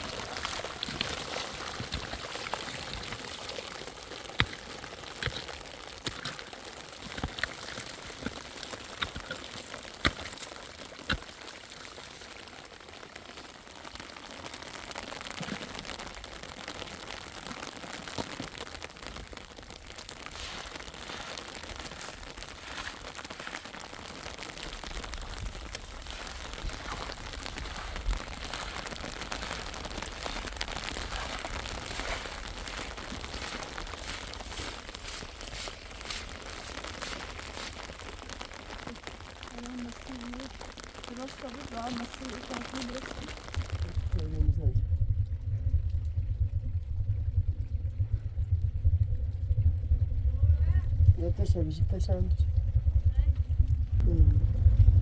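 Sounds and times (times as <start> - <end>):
steady rain: 0.0 - 55.0
water pouring and dripping: 0.0 - 55.0.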